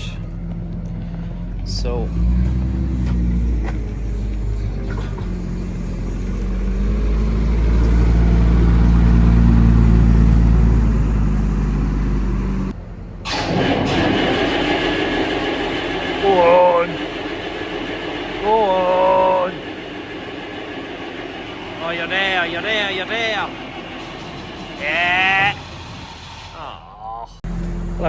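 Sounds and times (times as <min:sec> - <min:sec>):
noisier engine sound: 0:00.0 - 0:28.0
tractor diesel engine running: 0:00.0 - 0:28.0.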